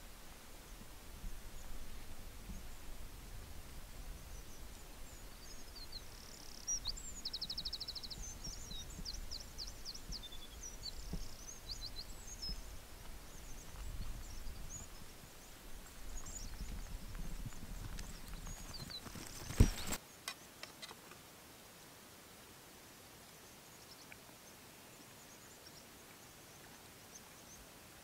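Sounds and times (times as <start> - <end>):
songbird singing: 0.0 - 21.3, 23.2 - 28.0.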